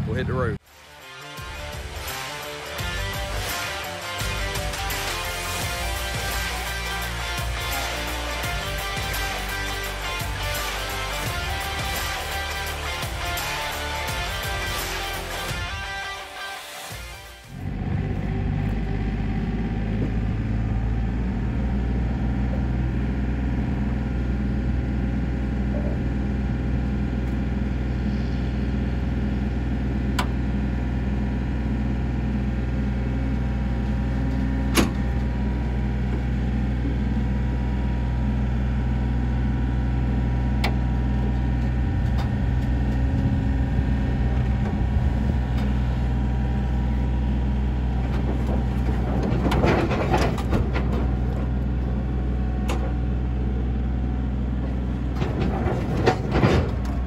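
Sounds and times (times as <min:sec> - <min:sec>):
vehicle engine and road drone: 0:00.0 - 0:57.0.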